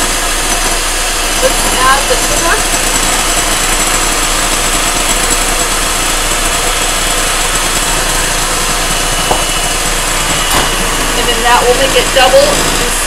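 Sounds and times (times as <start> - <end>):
beaters whipping mixture in bowl: 0.0 - 13.0
electric hand mixer running: 0.0 - 13.0.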